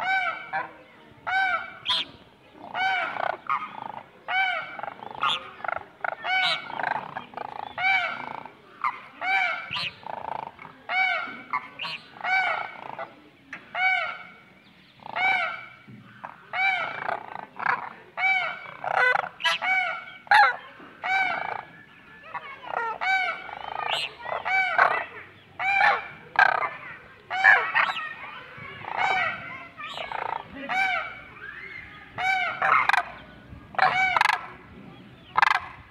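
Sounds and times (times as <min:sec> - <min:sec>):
cranes honking calls: 0:00.0 - 0:13.1, 0:15.0 - 0:21.8, 0:22.4 - 0:28.1, 0:28.8 - 0:34.6, 0:35.3 - 0:35.9.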